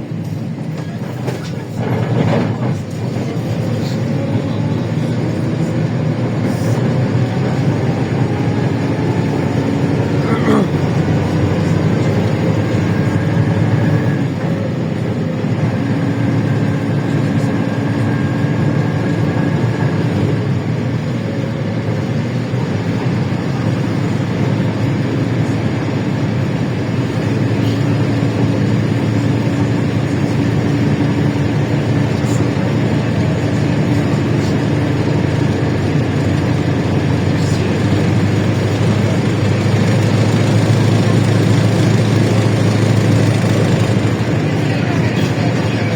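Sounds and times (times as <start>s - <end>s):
bus engine rumbling and whining: 0.0s - 45.9s.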